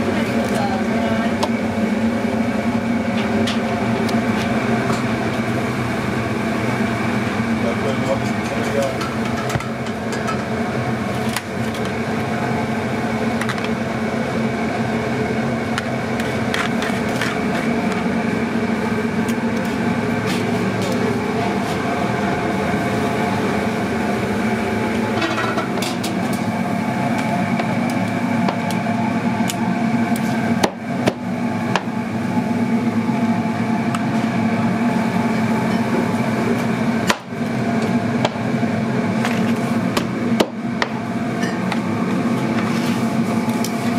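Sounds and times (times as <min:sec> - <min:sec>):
kitchen equipment droning: 0:00.0 - 0:43.9.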